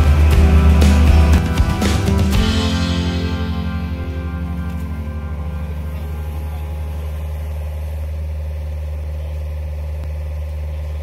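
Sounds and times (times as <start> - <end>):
construction machine engine idling: 0.0 - 11.0.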